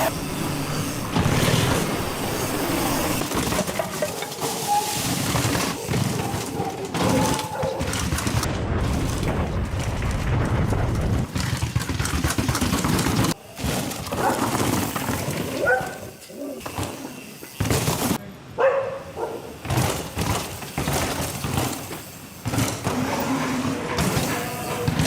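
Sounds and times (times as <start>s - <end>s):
mountain bike rattling over rough ground: 0.0s - 18.2s, 19.6s - 25.0s.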